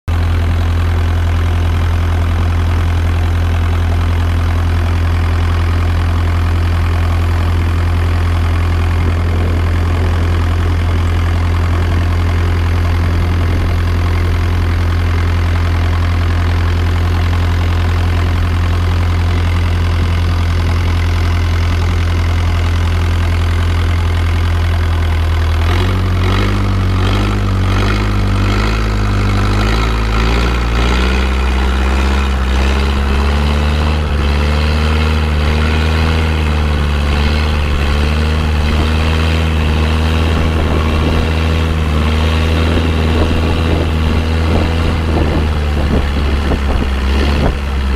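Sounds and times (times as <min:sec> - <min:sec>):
boat engine drone: 0:00.1 - 0:47.9.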